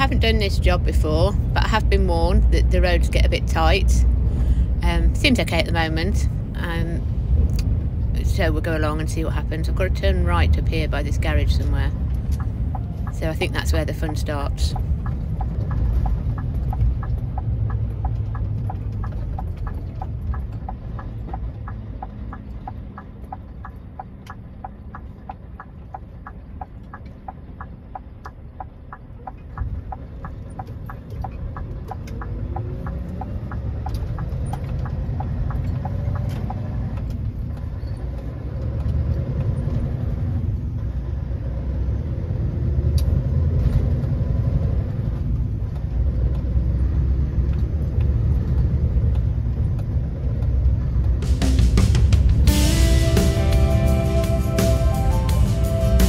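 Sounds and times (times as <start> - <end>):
diesel engine rumbling: 0.0 - 56.0
turn indicator ticking: 0.0 - 56.0.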